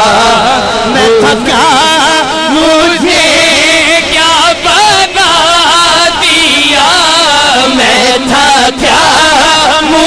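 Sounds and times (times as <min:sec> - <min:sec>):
men singing through microphones: 0:00.0 - 0:10.0.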